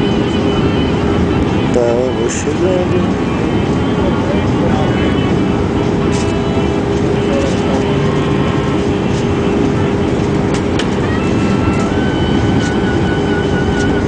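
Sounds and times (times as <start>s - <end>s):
jet engines and airflow rushing: 0.0s - 14.0s
low hum: 0.0s - 14.0s.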